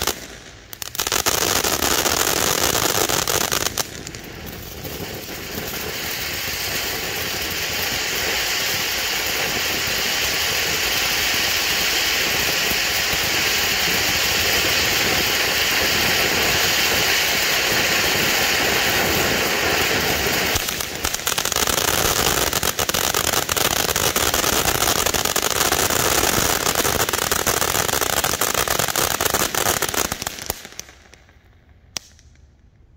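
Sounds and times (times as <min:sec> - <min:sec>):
firework fountain hissing: 0:00.0 - 0:31.1.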